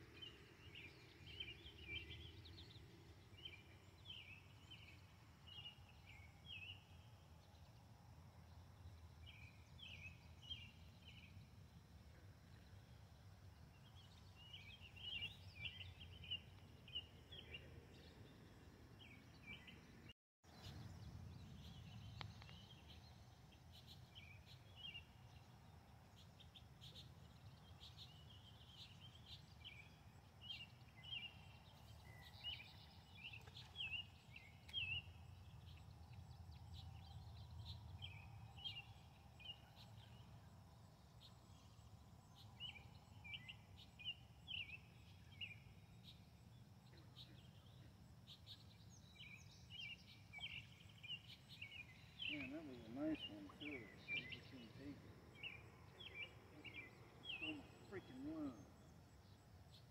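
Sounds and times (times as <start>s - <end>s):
faint bird chirps: 8.5s - 59.9s.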